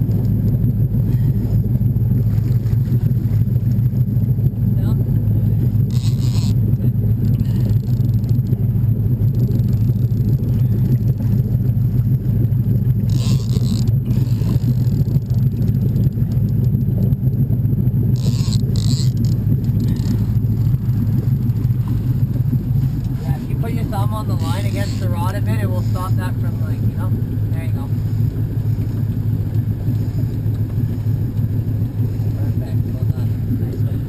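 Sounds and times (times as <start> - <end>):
boat motor rumbling: 0.0 - 34.0.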